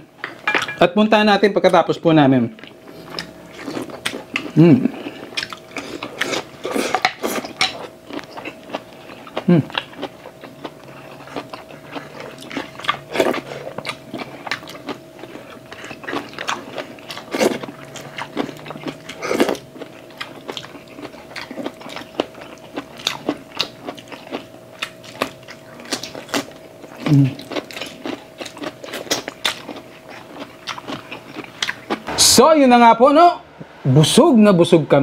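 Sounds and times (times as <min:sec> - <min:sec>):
faint steady hum: 0:00.0 - 0:35.0
people chewing and biting: 0:02.6 - 0:32.1.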